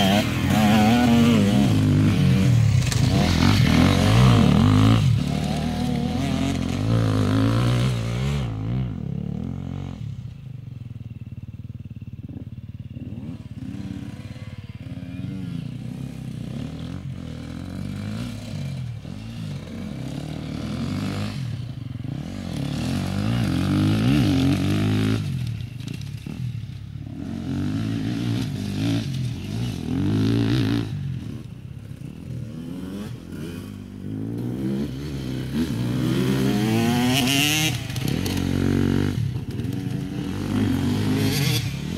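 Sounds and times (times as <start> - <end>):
dirt bikes revving: 0.0 - 41.9.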